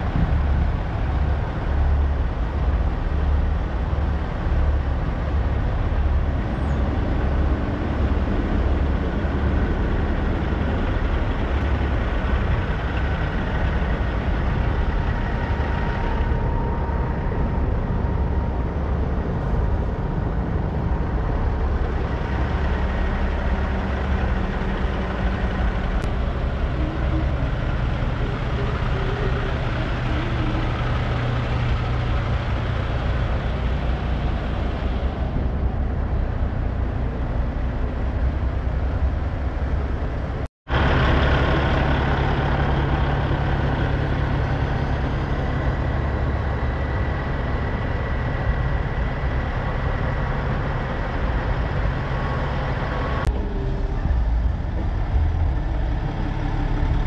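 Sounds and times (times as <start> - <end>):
diesel truck engines idling: 0.0 - 57.0.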